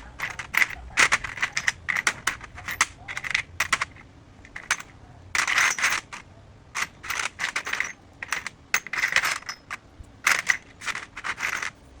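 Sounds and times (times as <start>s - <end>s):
small parts clicking and rattling: 0.0s - 12.0s.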